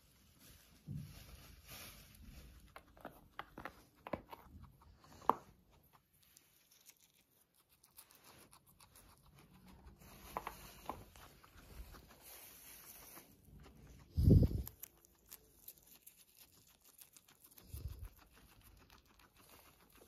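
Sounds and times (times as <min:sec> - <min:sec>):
guinea pig chewing: 0:01.5 - 0:20.0.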